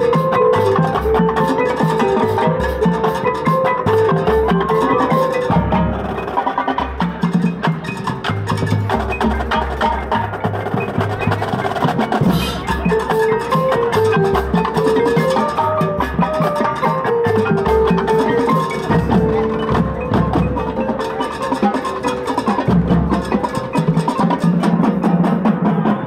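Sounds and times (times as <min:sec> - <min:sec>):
mallet percussion melody: 0:00.0 - 0:26.0
tenor drums in quick runs: 0:00.0 - 0:26.0.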